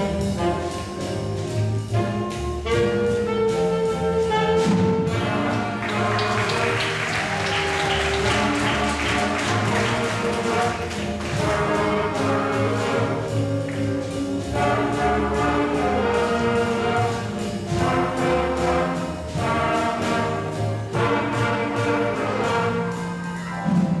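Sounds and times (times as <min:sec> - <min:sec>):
band playing blues: 0:00.0 - 0:24.0
drum kit: 0:00.0 - 0:24.0.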